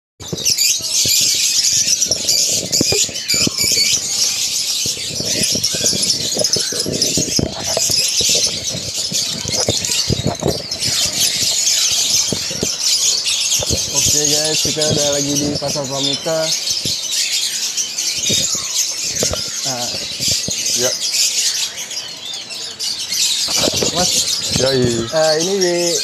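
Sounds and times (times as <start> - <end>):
caged birds chirping and squeaking: 0.2 - 26.0.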